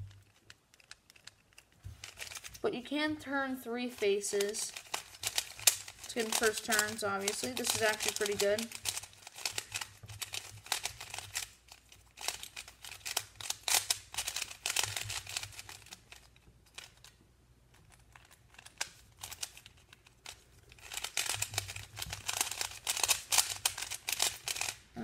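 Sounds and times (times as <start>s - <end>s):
plastic puzzle cube clicking: 0.0s - 2.6s, 4.3s - 17.2s, 17.8s - 24.8s.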